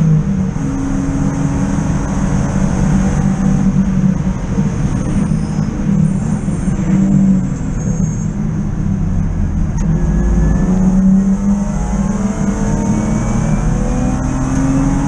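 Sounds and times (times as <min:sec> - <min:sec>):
race car engine drone: 0:00.0 - 0:15.0.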